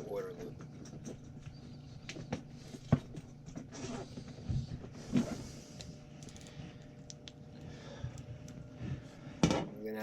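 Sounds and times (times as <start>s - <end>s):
circulator pump humming: 0.0s - 9.6s.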